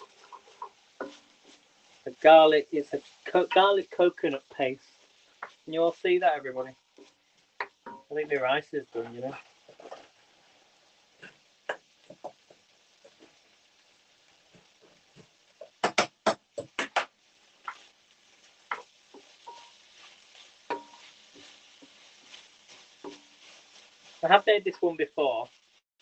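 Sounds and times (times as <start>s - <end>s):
spoon scraping in frying pan: 0.0s - 2.2s, 2.8s - 5.8s, 6.8s - 15.8s, 17.2s - 24.9s.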